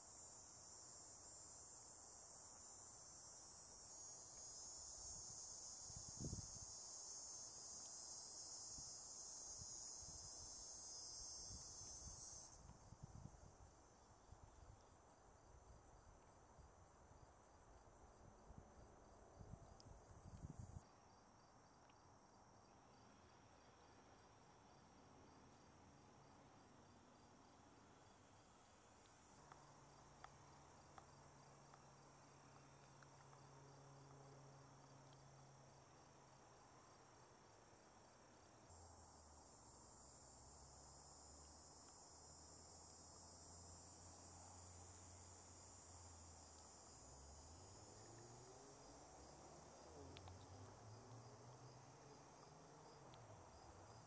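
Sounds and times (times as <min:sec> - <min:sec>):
insects chirring: 0:00.0 - 0:23.0, 0:25.5 - 0:54.0.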